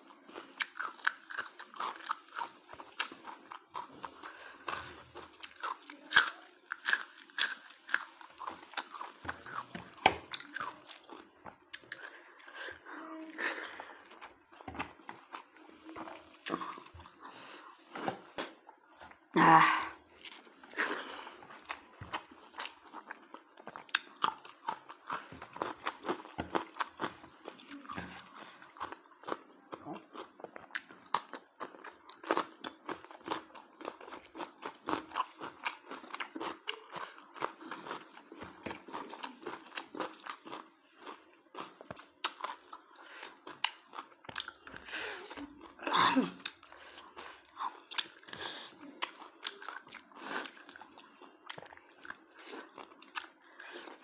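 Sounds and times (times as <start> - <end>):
person chewing and crunching: 0.0 - 54.0.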